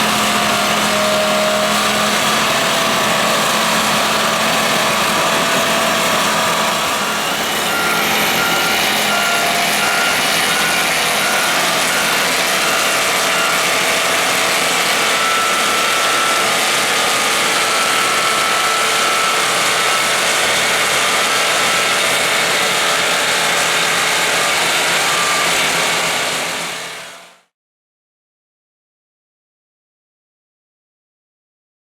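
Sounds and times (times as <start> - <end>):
snow blower running: 0.0 - 27.5.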